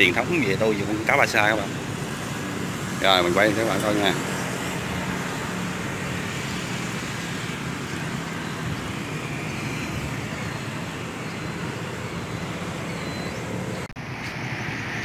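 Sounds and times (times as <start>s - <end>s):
road traffic rush: 0.0s - 15.0s.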